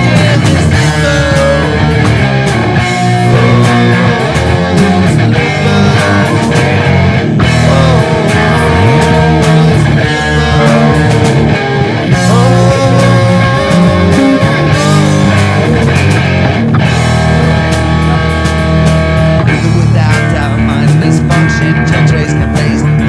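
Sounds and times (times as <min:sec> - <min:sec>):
loud rock music with guitar: 0:00.0 - 0:23.0.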